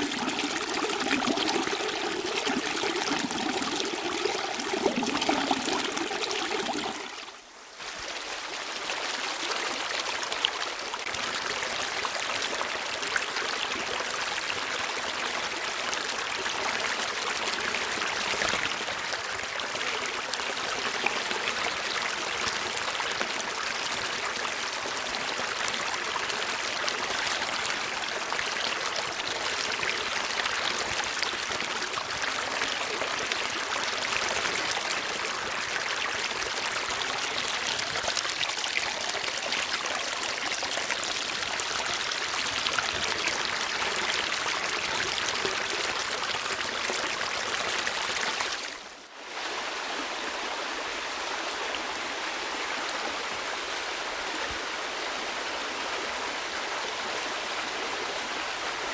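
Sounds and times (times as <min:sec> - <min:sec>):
stream flowing and trickling: 0:00.0 - 0:58.9.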